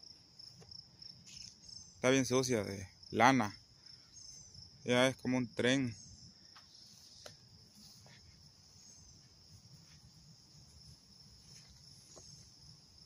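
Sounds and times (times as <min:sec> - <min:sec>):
high-pitched insect chirring: 0:01.1 - 0:13.0.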